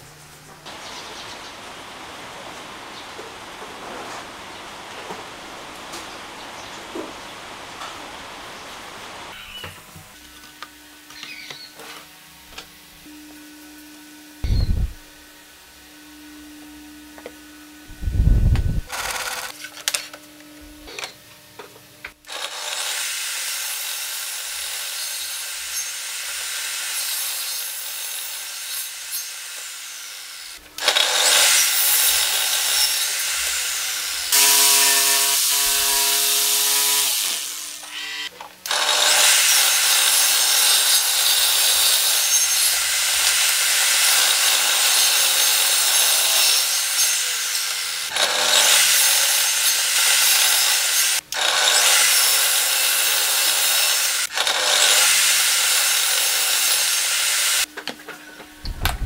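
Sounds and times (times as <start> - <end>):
table saw cutting wood: 9.3 - 20.2, 20.9 - 57.7.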